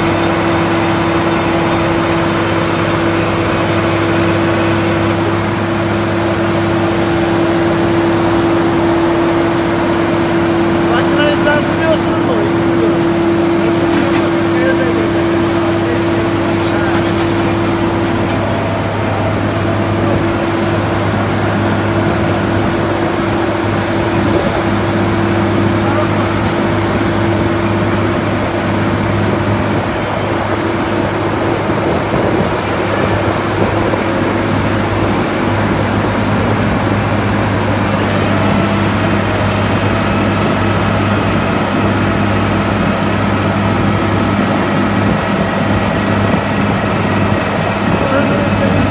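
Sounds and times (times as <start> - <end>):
diesel engine running steadily: 0.0 - 48.9.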